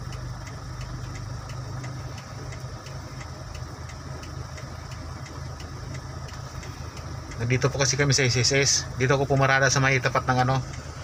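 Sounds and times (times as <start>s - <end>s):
car engine idling: 0.0s - 11.0s
light even ticking: 0.0s - 11.0s.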